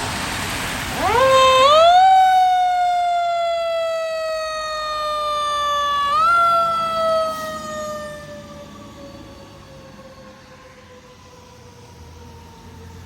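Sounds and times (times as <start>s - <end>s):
fire engine siren wailing: 0.5s - 13.0s.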